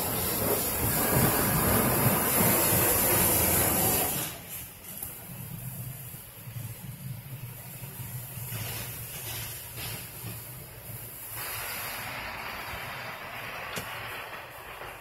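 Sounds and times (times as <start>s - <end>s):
car wash equipment humming: 0.0s - 15.0s
spray and air hissing: 0.0s - 15.0s.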